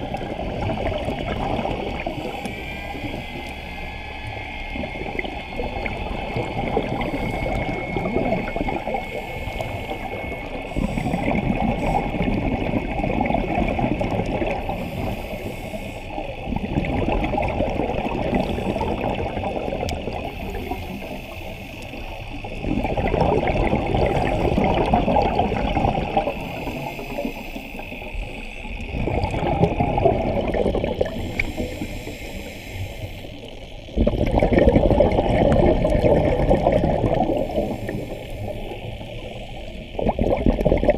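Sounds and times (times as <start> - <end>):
underwater bubbling and rushing: 0.0 - 40.9.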